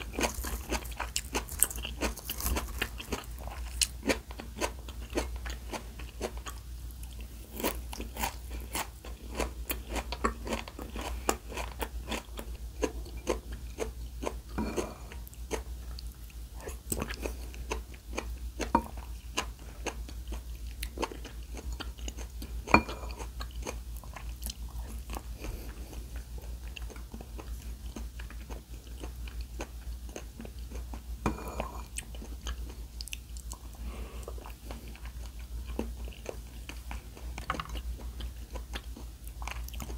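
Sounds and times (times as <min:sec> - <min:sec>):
person chewing crunchy food: 0:00.0 - 0:39.9
steady low hum: 0:00.0 - 0:39.9.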